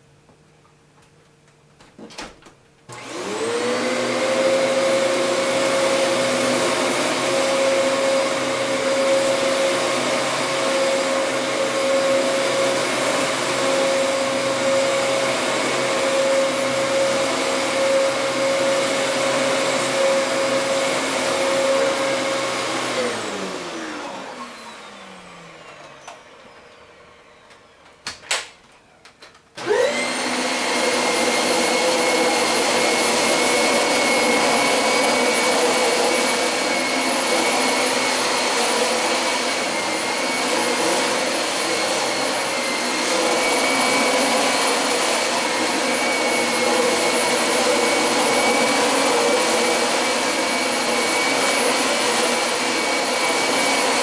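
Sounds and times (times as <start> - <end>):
second vacuum cleaner whine: 2.9 - 54.0
vacuum cleaner motor whine: 2.9 - 54.0.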